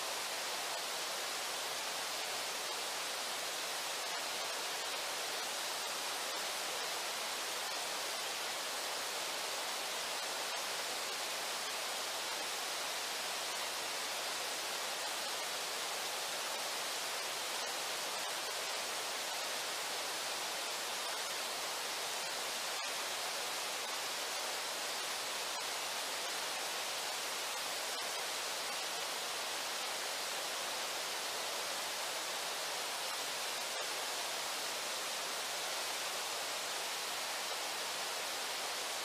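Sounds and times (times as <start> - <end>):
river water rushing: 0.0 - 39.0.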